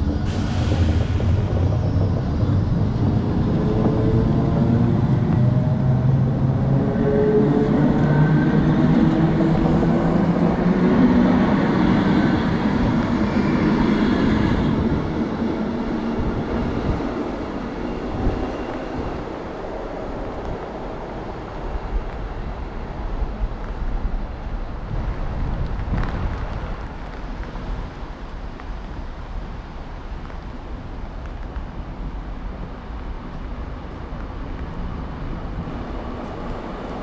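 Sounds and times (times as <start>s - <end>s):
electric train rumbling: 0.0s - 37.0s
wind buffeting microphone: 0.0s - 37.0s.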